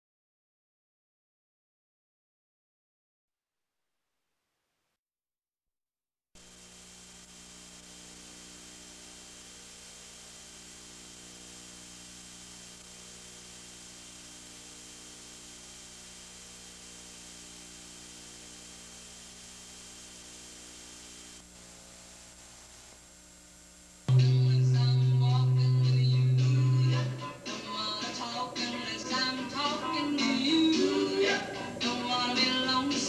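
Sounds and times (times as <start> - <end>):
electrical hum: 6.4 - 33.0
tape hiss: 6.4 - 33.0.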